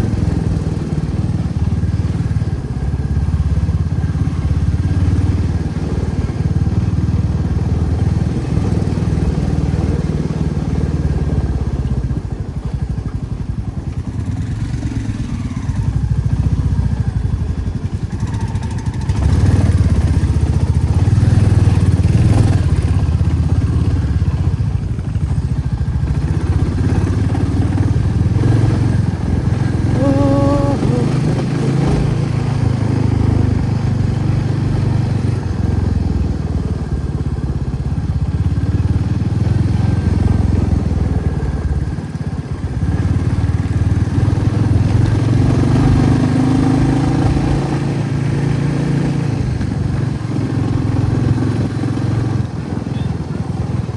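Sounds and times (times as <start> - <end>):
motorcycle engine rumbling: 0.0 - 47.8.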